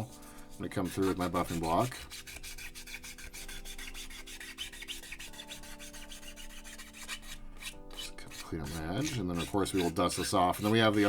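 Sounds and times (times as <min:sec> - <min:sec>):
buffing block sanding plastic: 0:00.0 - 0:11.0.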